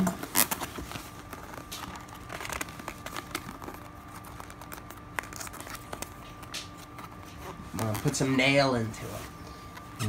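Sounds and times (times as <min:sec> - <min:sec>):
plastic shrink wrap crinkling and tearing: 0:00.1 - 0:08.4.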